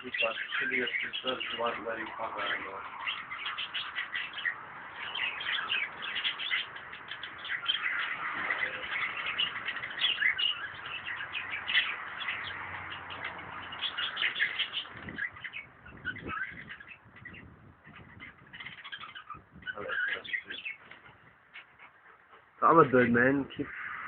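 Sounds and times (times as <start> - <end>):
birds chirping busily: 0.0 - 24.0.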